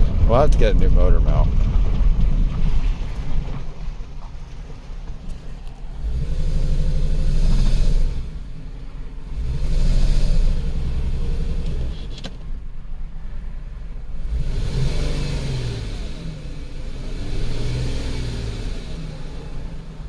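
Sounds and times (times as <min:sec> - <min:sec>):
car engine misfiring: 0:00.0 - 0:20.0.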